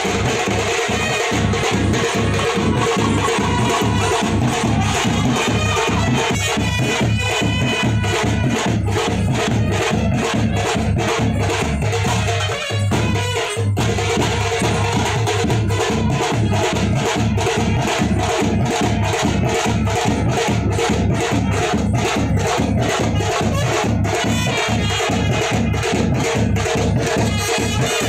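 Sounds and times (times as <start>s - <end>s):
music with percussion and brass: 0.0s - 28.0s.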